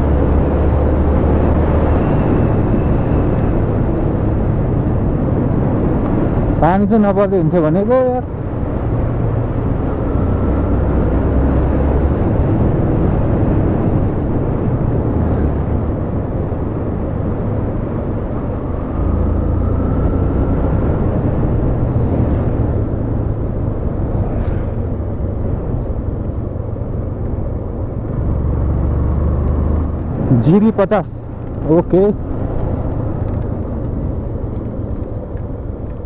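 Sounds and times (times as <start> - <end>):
deep rumble: 0.0 - 36.0.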